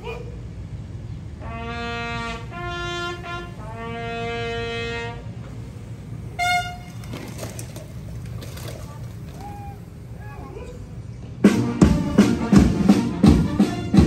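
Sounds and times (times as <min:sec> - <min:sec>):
bugle call: 0:01.3 - 0:14.0.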